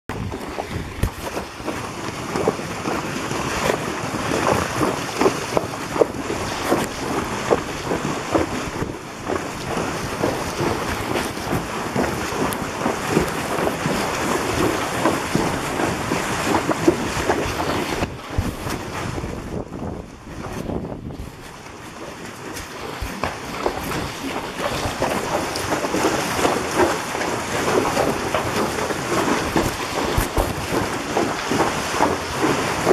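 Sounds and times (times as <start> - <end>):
hooves splashing in water: 0.1 - 32.9
wind on microphone: 0.1 - 32.9.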